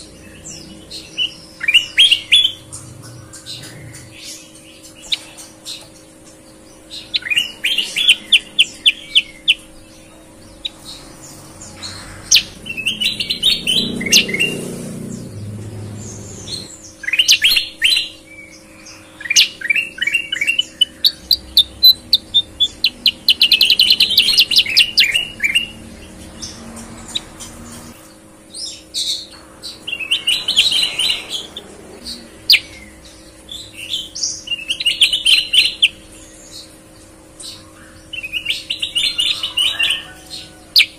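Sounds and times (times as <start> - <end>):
caged birds chirping: 0.0 - 40.9.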